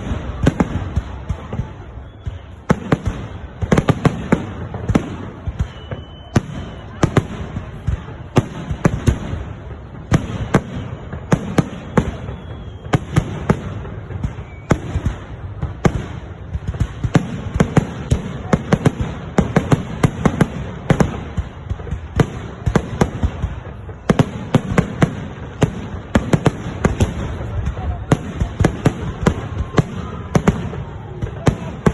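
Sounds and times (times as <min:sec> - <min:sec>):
fireworks bangs: 0:00.0 - 0:31.9.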